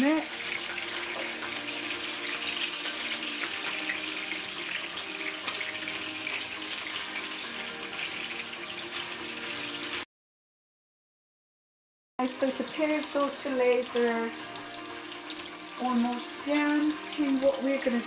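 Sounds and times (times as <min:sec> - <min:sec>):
fish frying in hot oil: 0:00.0 - 0:10.0, 0:12.2 - 0:18.0.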